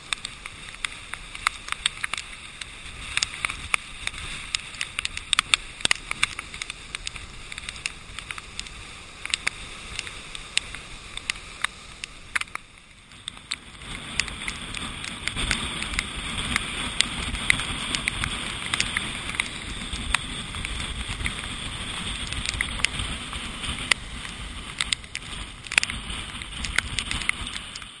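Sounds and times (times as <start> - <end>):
surf breaking against rocks: 0.0 - 27.8
rain ticking on camera housing: 0.0 - 28.0
wind on microphone: 0.0 - 28.0.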